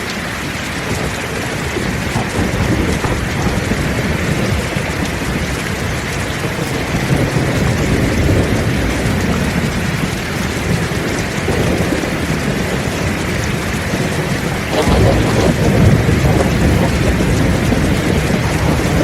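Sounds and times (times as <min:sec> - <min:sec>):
heavy rain pouring: 0:00.0 - 0:19.0
low rumble of thunder: 0:00.8 - 0:19.0.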